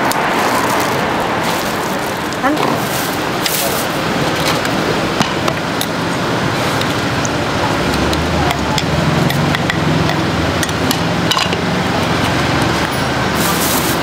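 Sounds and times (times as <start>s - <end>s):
noisy cooking background: 0.0s - 14.0s.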